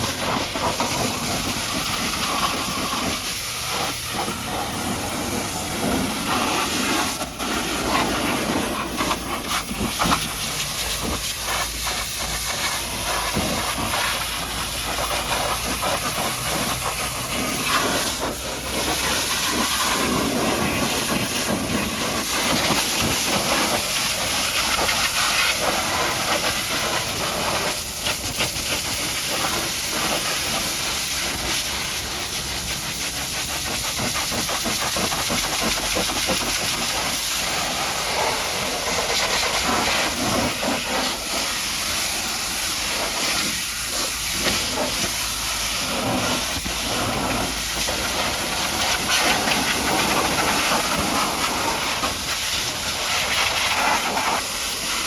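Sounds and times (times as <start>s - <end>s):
pressure washer spraying water: 0.0s - 55.0s.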